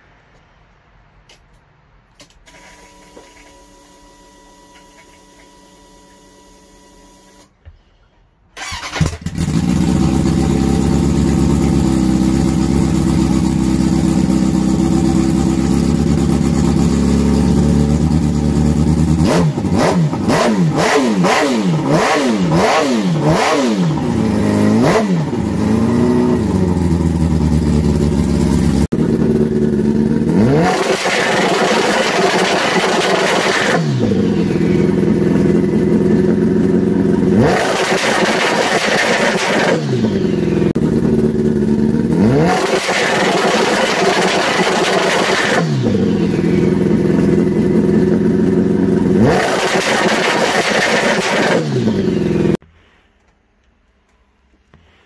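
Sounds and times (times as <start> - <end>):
motorcycle engine idling and revving: 8.6 - 52.6.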